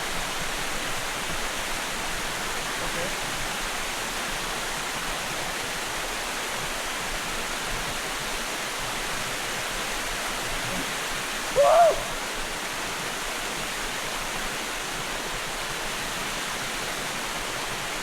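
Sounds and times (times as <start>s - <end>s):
small waterfall pouring: 0.0s - 18.0s.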